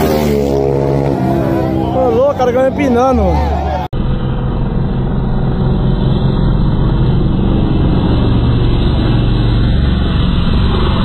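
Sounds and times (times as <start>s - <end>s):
motorcycle engines racing: 0.0s - 11.0s.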